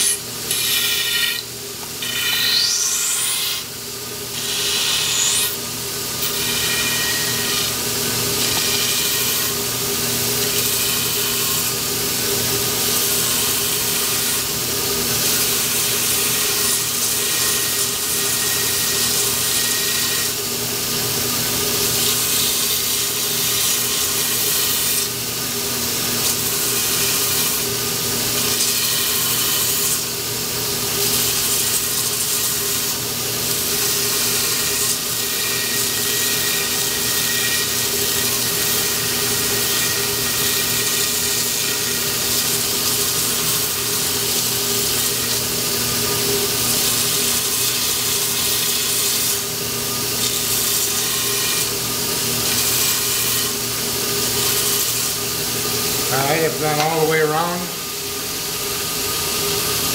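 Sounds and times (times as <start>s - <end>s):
grinder motor hum and whine: 0.0s - 59.9s.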